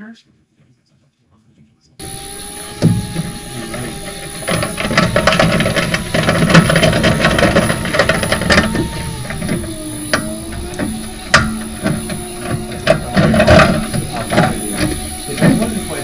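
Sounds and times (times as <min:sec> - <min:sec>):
electric drive whine: 0:02.0 - 0:16.0.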